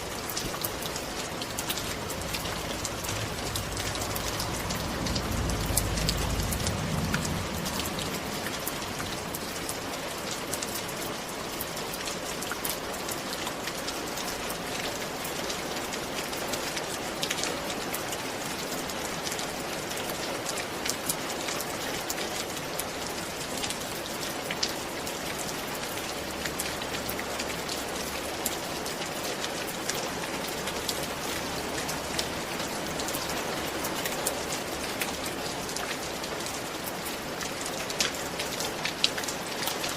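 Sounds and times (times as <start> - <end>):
rain falling: 0.0 - 39.9
raindrops ticking on a surface: 0.0 - 39.9.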